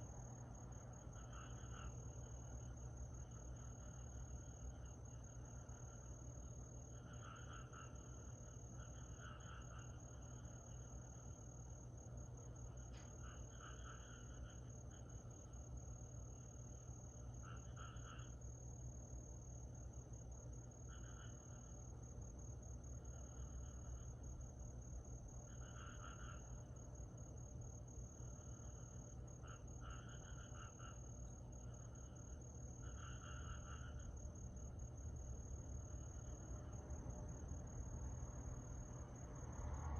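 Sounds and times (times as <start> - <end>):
lower pulsing insect call: 0.0 - 39.9
insects trilling: 0.1 - 39.9.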